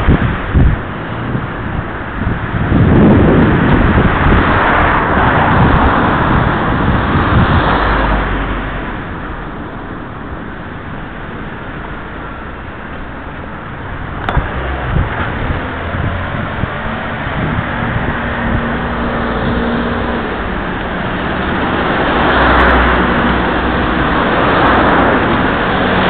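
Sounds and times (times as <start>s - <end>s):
passing cars: 0.0s - 26.0s.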